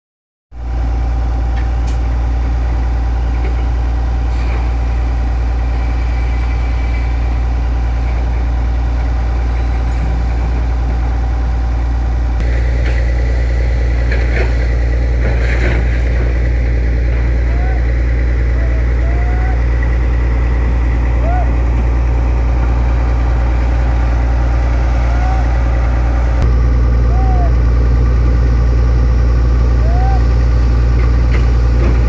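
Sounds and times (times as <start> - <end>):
diesel engine running: 0.6 - 32.0
engine whine: 0.6 - 32.0.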